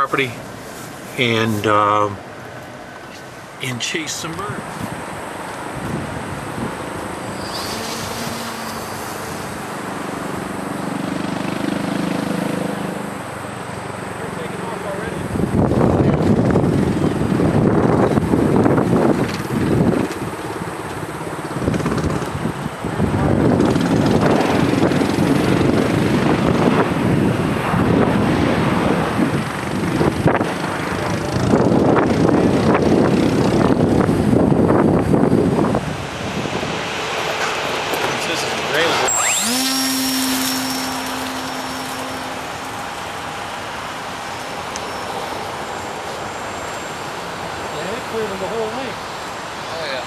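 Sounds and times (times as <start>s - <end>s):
low-flying jet airliner rumble: 0.0s - 50.0s
wind on microphone: 4.0s - 13.4s, 15.1s - 46.5s
drone motor and propeller hum: 4.6s - 14.2s, 15.3s - 46.5s.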